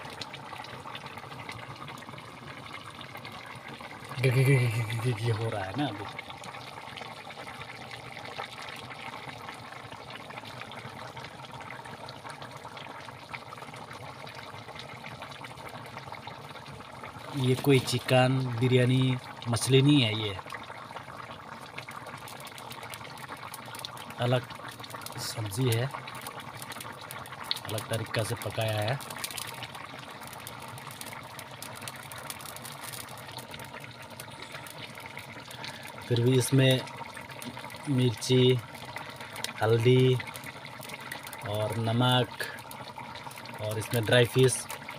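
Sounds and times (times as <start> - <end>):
curry boiling and bubbling: 0.0 - 44.9.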